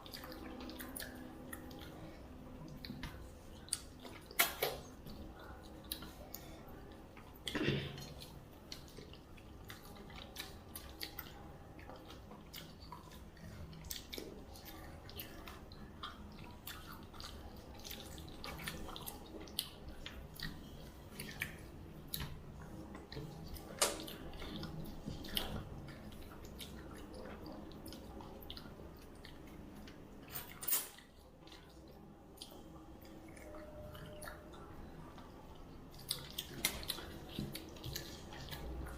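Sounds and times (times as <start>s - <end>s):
chewing and mouth noises: 0.0s - 38.9s.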